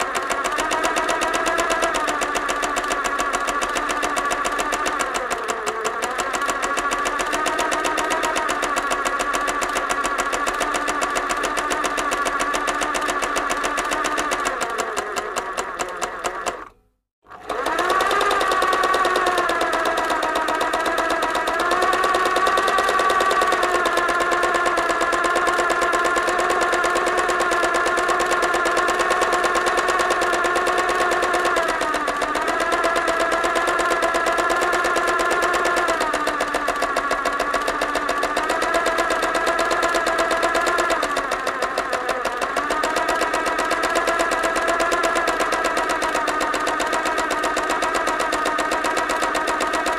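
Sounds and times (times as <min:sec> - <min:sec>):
sewing machine stitching: 0:00.0 - 0:49.9.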